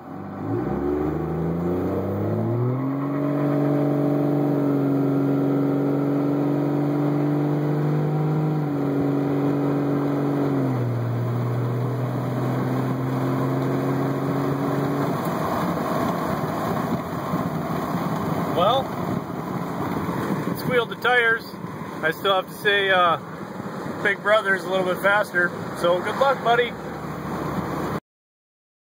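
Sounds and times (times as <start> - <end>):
diesel engine accelerating: 0.0 - 28.0
road and wind noise: 0.0 - 28.0.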